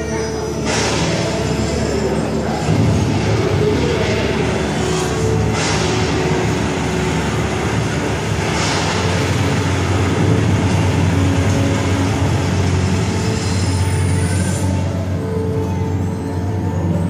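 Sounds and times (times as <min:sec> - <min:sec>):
low rumbling soundtrack: 0:00.0 - 0:17.0.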